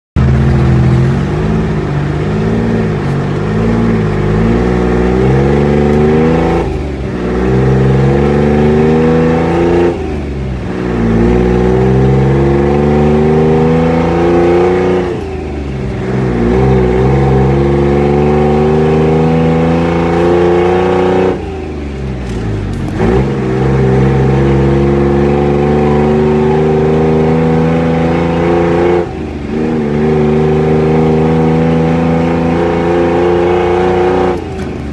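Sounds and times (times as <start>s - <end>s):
engine revving loudly: 0.2s - 34.9s.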